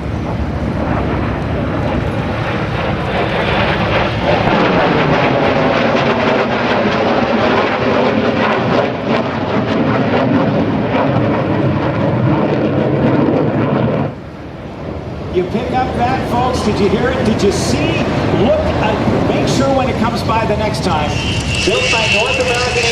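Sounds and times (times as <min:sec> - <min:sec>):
jet engine roaring with crackling: 0:00.0 - 0:22.9.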